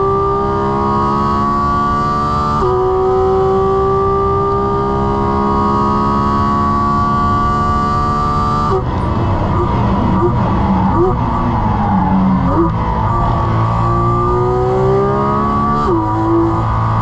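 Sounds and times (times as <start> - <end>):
car engine at full throttle: 0.0 - 17.0.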